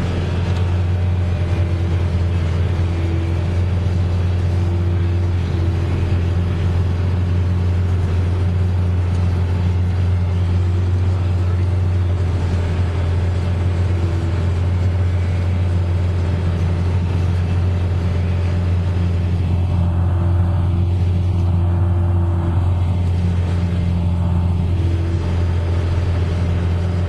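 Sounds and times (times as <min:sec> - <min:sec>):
tractor diesel engine drone: 0:00.0 - 0:27.0.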